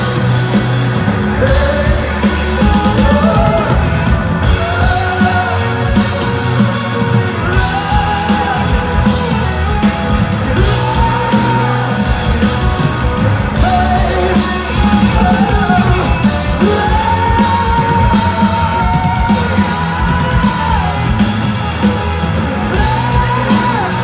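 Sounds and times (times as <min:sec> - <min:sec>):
rock band playing live: 0:00.0 - 0:24.0
man singing long sliding notes: 0:01.2 - 0:21.3.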